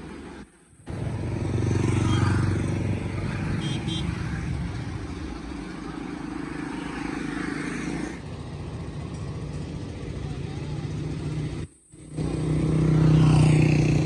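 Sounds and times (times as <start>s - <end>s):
hum of passing vehicles: 0.0s - 14.0s
motorcycle passing: 0.0s - 14.0s.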